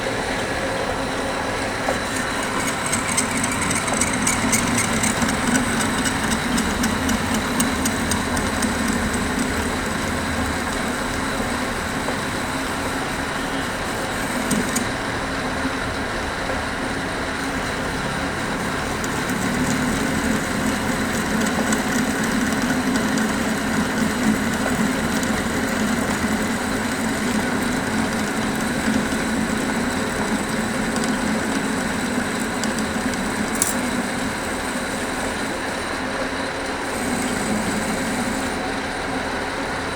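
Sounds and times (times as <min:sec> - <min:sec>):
lathe humming: 0:00.0 - 0:39.9.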